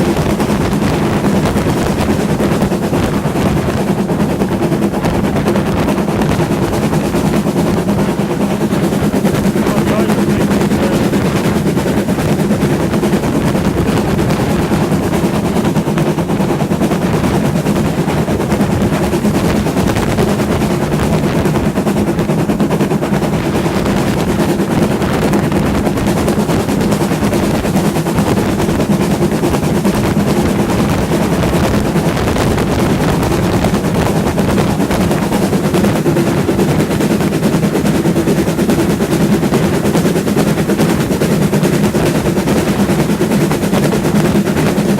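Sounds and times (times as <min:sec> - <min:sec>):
steam train rattling: 0:00.0 - 0:44.9.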